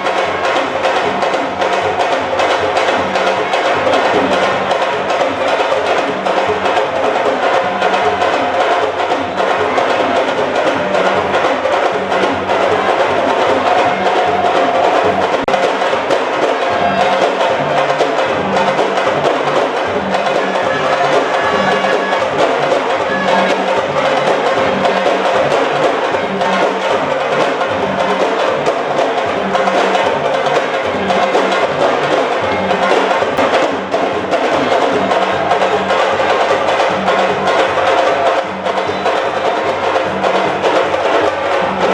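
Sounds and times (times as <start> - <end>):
fast steady drumming: 0.0 - 41.9.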